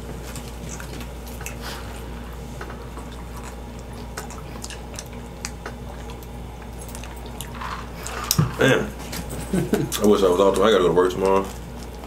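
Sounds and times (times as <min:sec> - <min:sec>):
people chewing: 0:00.0 - 0:12.0
steady low hum: 0:00.0 - 0:12.0.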